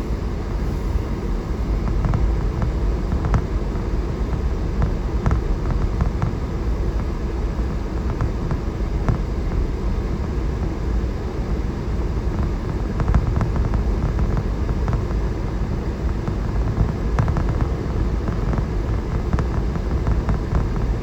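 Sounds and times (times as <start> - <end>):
vehicle rumble inside cab: 0.0 - 21.0.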